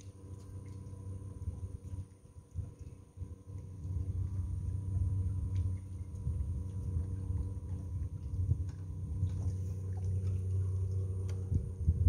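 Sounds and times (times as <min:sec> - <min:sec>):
electric boat drive humming: 0:00.0 - 0:12.0
low rumble: 0:00.0 - 0:12.0.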